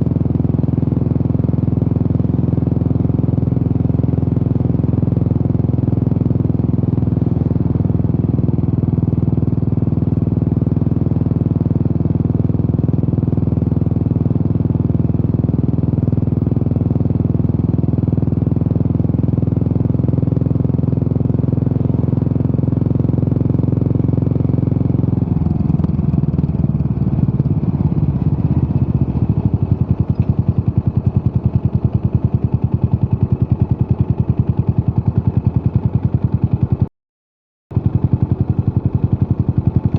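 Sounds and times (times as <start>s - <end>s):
motorcycle engine running: 0.0s - 36.9s, 37.7s - 39.9s.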